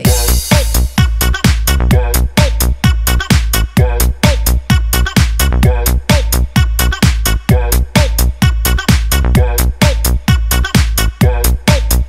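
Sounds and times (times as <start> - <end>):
electronic dance music: 0.0 - 12.0
heavy bassline: 0.0 - 12.0
kick drum: 0.0 - 12.0.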